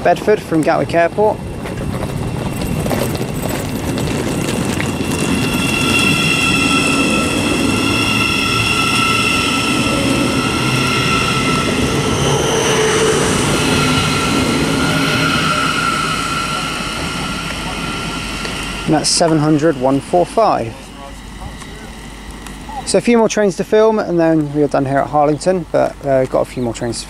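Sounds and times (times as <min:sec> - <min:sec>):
electric train motor whine: 0:00.0 - 0:27.0
train rolling rumble: 0:00.0 - 0:27.0.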